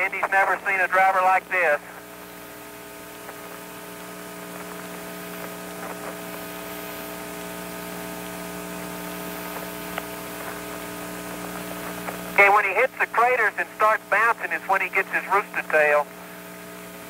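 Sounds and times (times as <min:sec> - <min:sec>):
radio electrical hum and hiss: 0:00.0 - 0:17.0.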